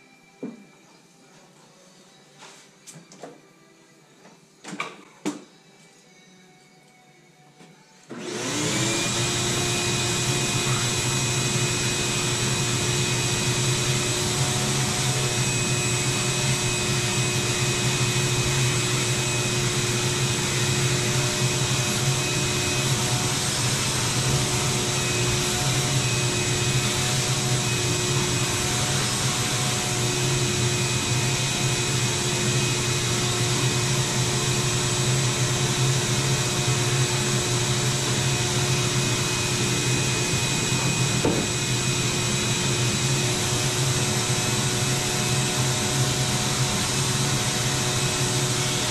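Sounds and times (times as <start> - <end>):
shop vacuum motor whining: 8.1 - 48.9.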